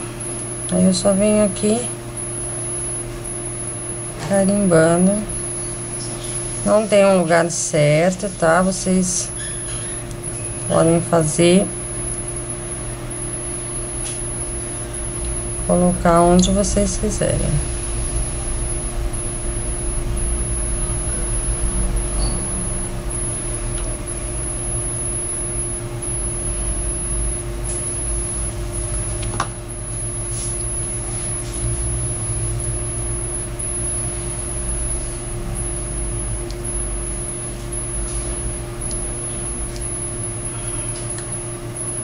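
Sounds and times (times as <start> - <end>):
constant tone: 0.0 - 42.0
low machine hum: 0.0 - 42.0.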